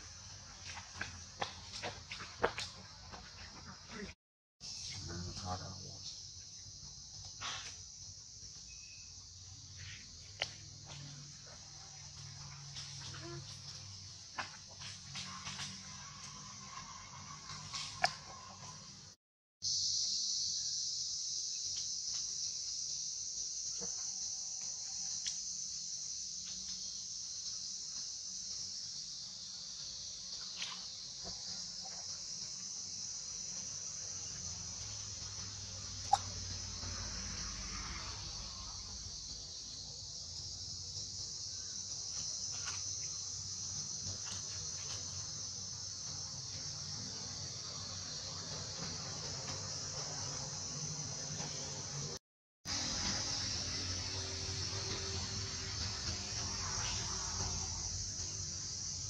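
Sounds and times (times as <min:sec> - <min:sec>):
insect chorus droning: 0:00.0 - 0:59.0.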